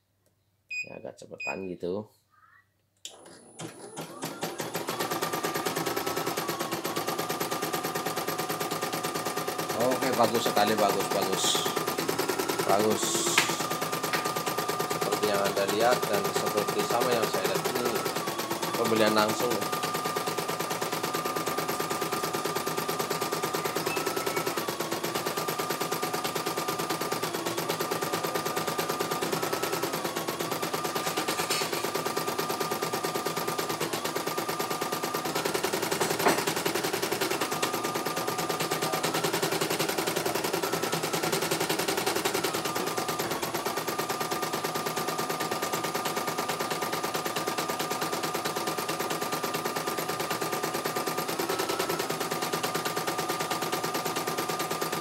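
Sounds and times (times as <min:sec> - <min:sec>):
embroidery machine stitching: 0:03.1 - 0:55.0.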